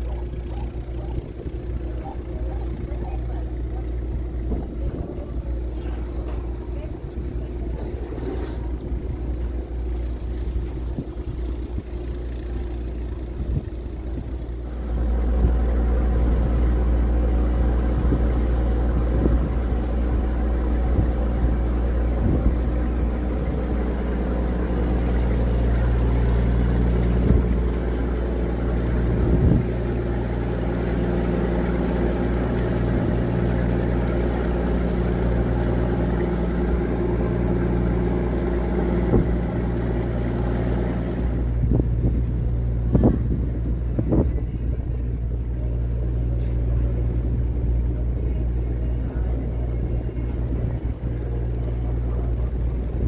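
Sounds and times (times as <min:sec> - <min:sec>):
ferry diesel engines humming: 0:00.0 - 0:53.0.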